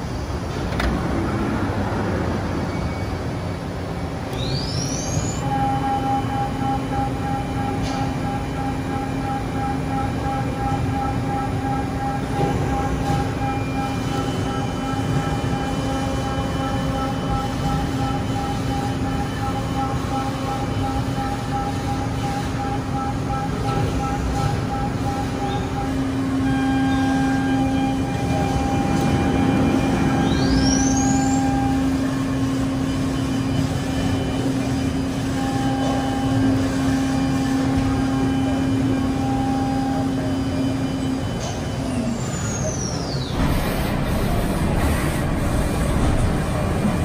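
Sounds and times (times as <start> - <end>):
rising machine whine: 4.3 - 47.0.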